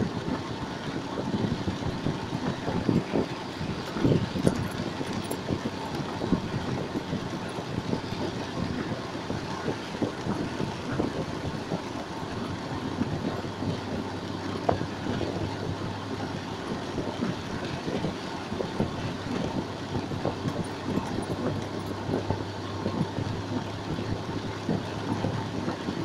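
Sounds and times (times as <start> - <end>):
heavy rainstorm: 0.0 - 26.0.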